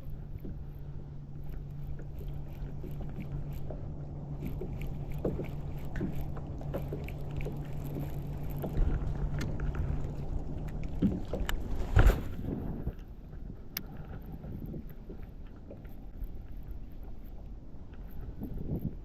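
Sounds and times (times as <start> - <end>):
light ticks: 0.0 - 11.7, 12.9 - 19.0
steady low hum: 0.0 - 19.0
wind rumbling on microphone: 0.0 - 19.0.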